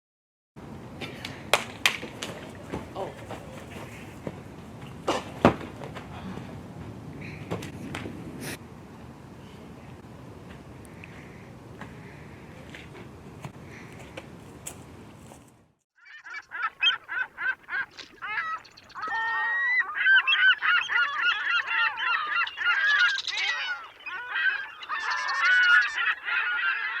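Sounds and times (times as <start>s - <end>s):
flock of birds calling: 0.7s - 14.3s, 16.0s - 27.0s.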